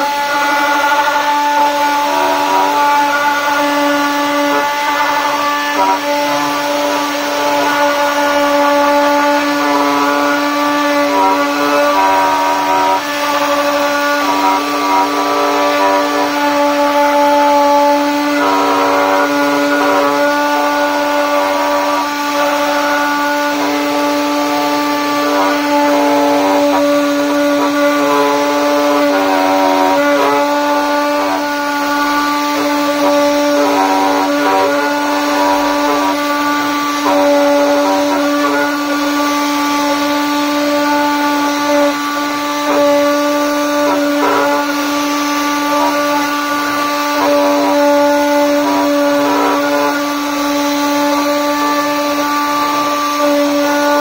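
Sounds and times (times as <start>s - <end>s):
bit cutting wood: 0.0s - 54.0s
router spindle whine: 0.0s - 54.0s.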